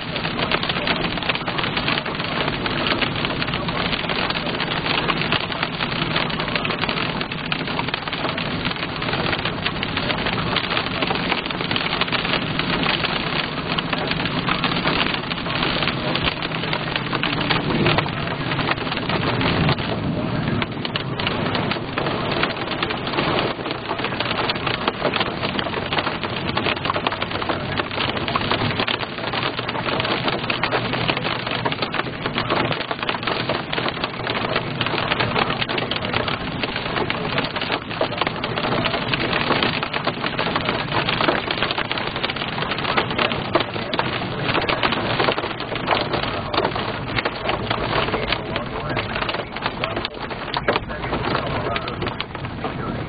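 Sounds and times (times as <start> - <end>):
car hum: 0.0 - 53.0
heavy rain on a car roof: 0.0 - 53.0.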